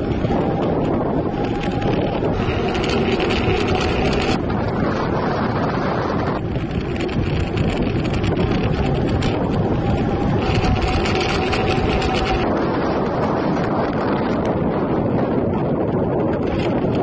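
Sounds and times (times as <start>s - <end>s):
faint steady whine: 0.0s - 14.0s
wind buffeting microphone: 0.0s - 17.0s.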